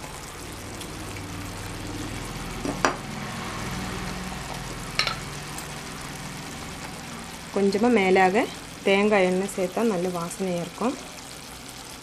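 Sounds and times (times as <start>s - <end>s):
gravy simmering and sizzling: 0.0s - 12.0s.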